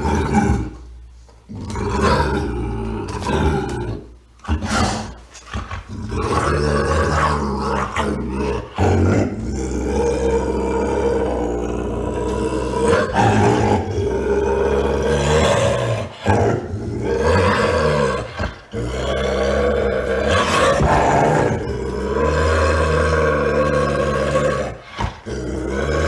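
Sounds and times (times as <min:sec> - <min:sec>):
bobcat growling and snarling: 0:01.5 - 0:26.0.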